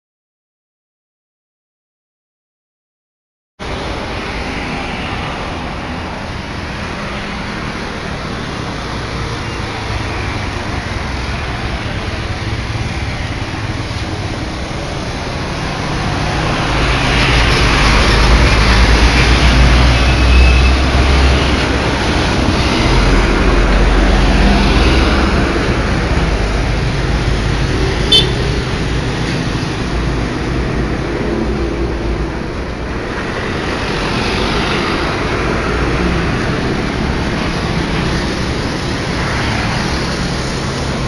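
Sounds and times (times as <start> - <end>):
bus diesel engine rumbling past: 3.6 - 41.0
passing traffic: 3.6 - 41.0.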